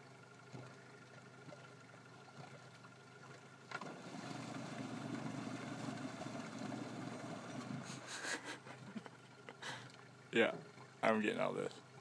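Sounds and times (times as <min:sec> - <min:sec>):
motorboat engine: 0:00.0 - 0:12.0.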